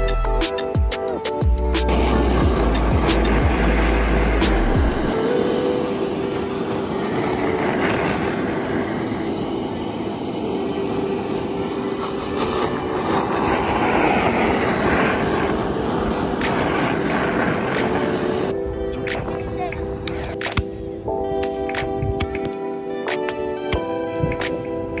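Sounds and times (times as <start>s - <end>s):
gas torch hissing: 0.0s - 22.6s.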